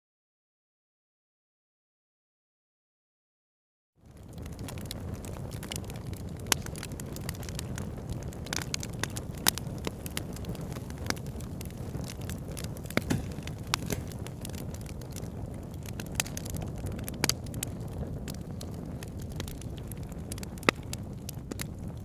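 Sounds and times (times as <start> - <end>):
wood fire crackling: 4.0 - 22.0.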